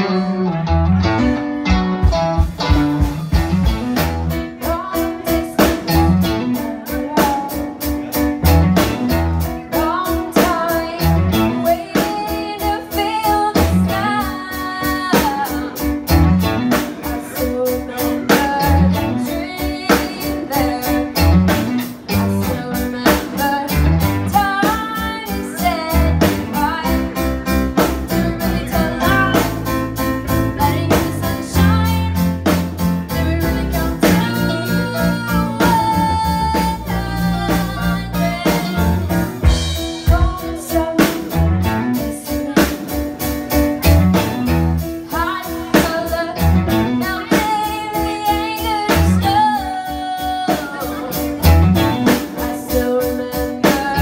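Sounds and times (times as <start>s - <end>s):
rock band playing: 0.0s - 54.0s
woman singing lead: 2.6s - 54.0s.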